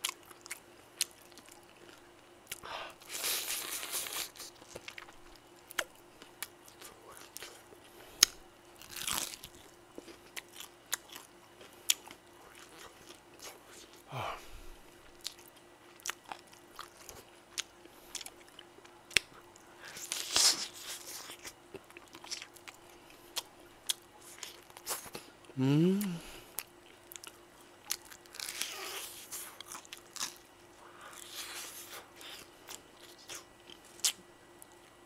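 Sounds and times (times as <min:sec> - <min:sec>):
chewing crispy fried chicken: 0:00.0 - 0:14.1, 0:14.8 - 0:35.0.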